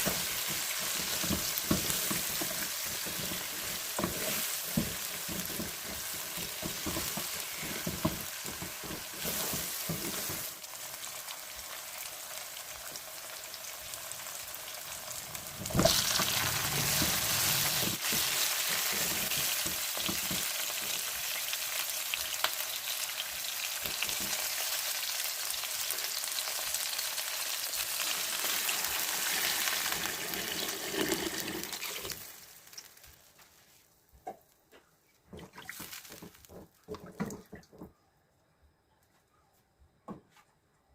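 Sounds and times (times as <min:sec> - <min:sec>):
food sizzling in hot oil: 0:00.0 - 0:33.5.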